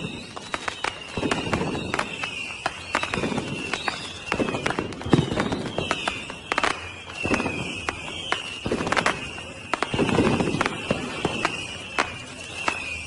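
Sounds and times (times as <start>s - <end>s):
fireworks bangs and crackles: 0.0s - 13.0s
high whistling tone: 0.0s - 13.0s.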